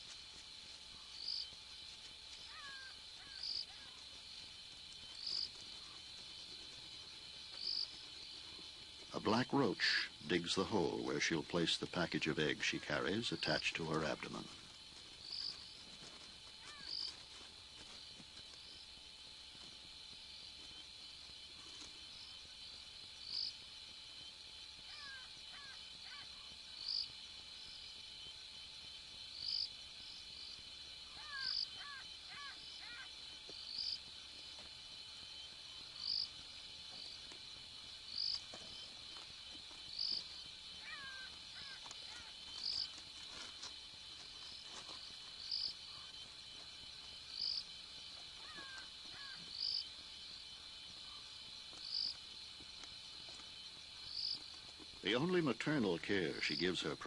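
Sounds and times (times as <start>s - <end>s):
faint gliding animal calls: 0.0s - 55.2s
crickets chirring: 0.0s - 57.0s.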